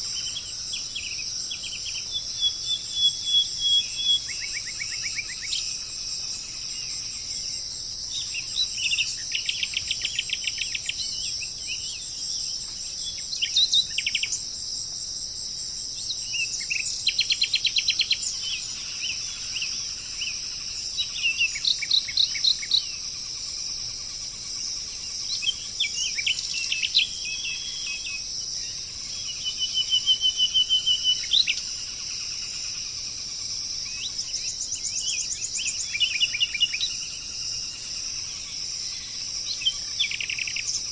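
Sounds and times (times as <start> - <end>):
high-pitched insect drone: 0.0 - 40.9
songbirds chirping and trilling: 0.0 - 40.9.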